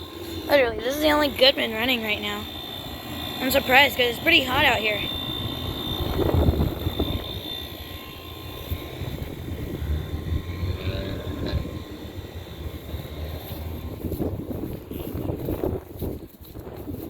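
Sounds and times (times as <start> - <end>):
air conditioner fan rush: 0.0 - 17.0
low hum: 0.0 - 17.0.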